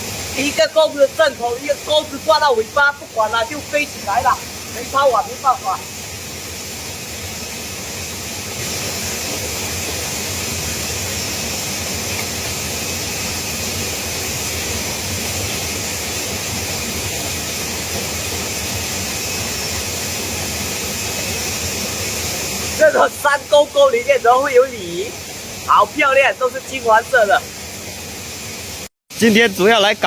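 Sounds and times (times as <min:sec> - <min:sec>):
waterfall rushing: 0:00.0 - 0:29.7.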